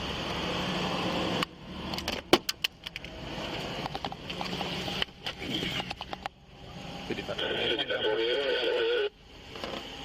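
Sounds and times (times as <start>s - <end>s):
vehicle running hum: 0.0s - 10.0s.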